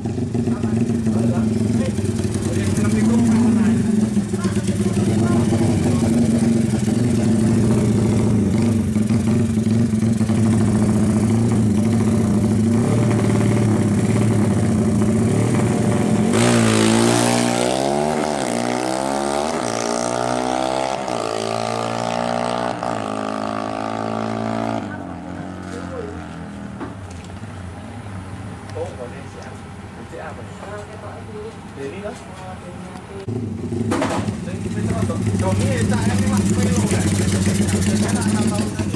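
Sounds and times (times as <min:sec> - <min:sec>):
motorcycle engine accelerating: 0:00.0 - 0:27.3, 0:33.2 - 0:38.9.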